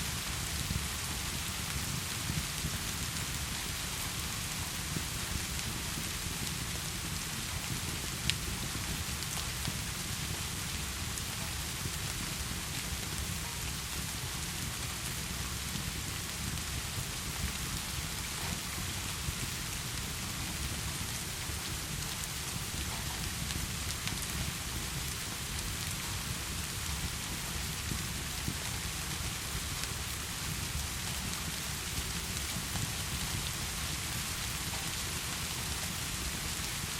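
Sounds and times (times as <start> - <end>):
heavy rain: 0.0 - 36.9
wood fire crackles: 0.0 - 36.9.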